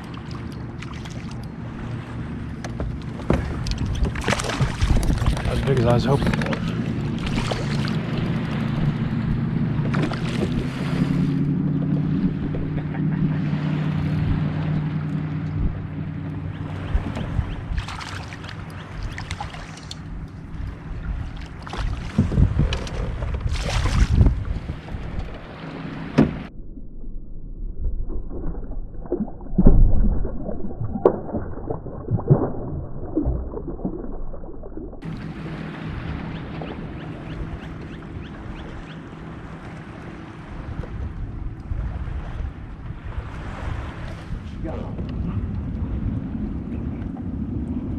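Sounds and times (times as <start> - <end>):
boat motor drone: 0.0 - 28.4, 34.9 - 47.9
muffled water gurgling and sloshing: 0.0 - 47.9.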